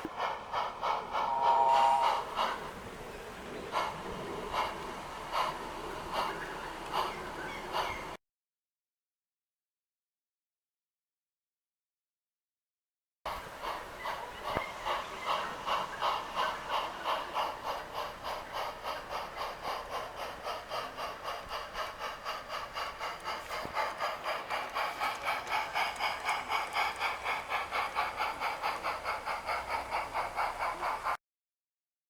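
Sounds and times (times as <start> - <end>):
model train running: 0.0 - 8.2, 13.3 - 31.2.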